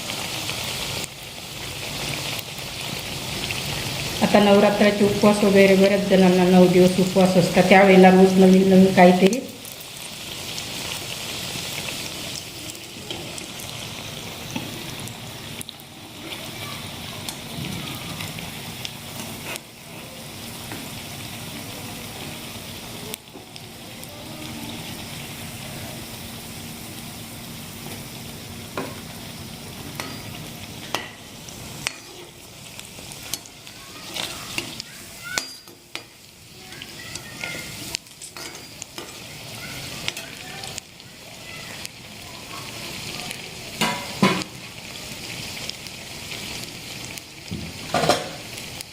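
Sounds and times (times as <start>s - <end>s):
oil sizzling: 0.0s - 48.9s.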